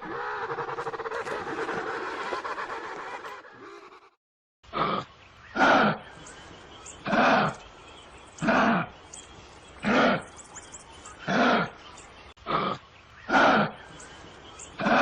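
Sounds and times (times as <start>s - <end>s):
animal calling: 0.0s - 15.0s.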